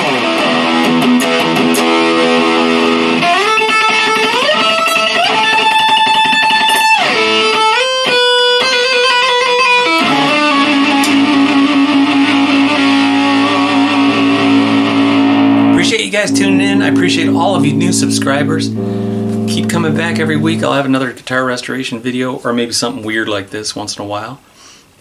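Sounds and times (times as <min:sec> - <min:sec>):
electric guitar through an amp: 0:00.0 - 0:21.0.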